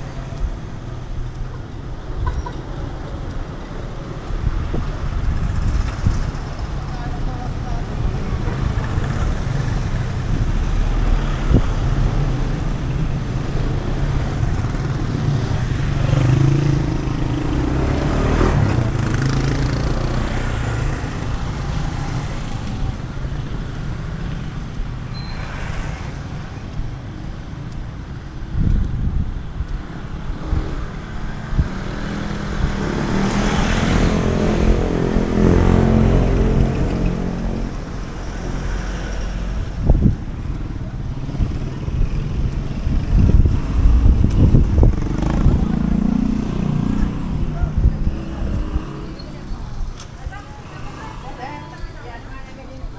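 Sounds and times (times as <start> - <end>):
traffic rumble: 0.0 - 52.9
loud engine passing and accelerating: 3.9 - 24.5, 30.0 - 52.1.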